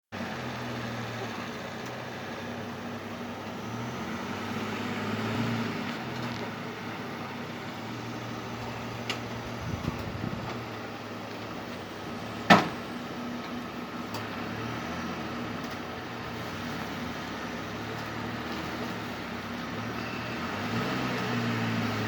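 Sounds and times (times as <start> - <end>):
vehicle engine humming: 0.1 - 22.0.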